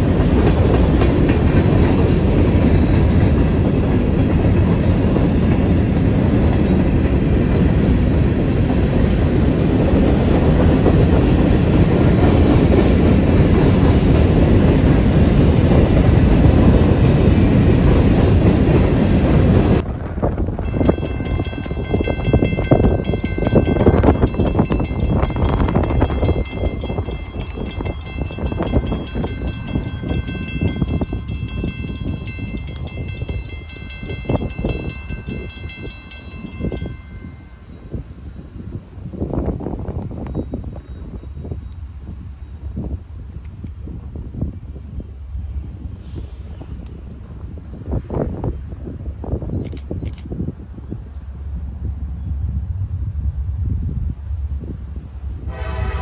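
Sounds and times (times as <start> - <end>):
railroad cars rumbling past: 0.0 - 56.0.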